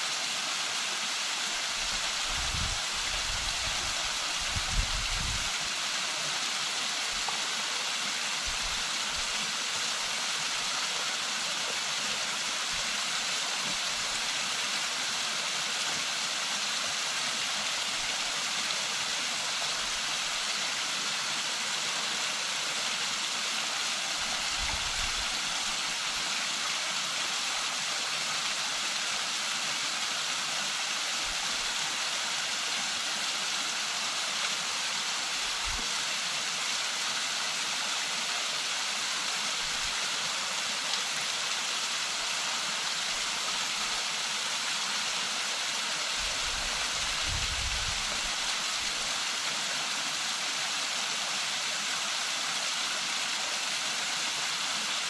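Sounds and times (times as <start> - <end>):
waterfall rushing over rock: 0.0 - 55.0.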